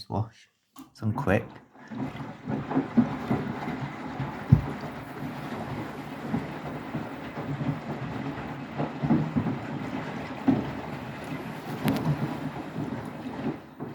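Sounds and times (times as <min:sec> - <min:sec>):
washing machine water sloshing: 0:00.8 - 0:13.9.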